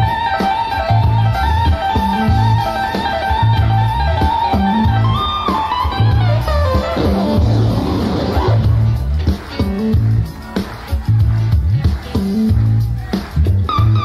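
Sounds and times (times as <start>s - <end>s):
electric bass figure: 0.0s - 10.3s, 11.0s - 14.0s
drums: 0.0s - 14.0s
guitar-like lead line: 0.0s - 14.0s.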